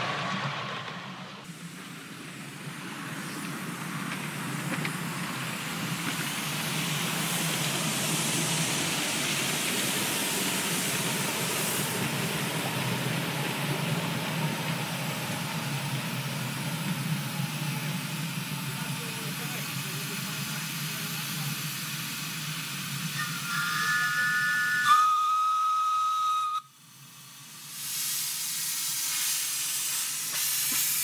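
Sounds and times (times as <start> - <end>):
miniature train rolling on track: 0.0 - 18.0, 18.6 - 31.0.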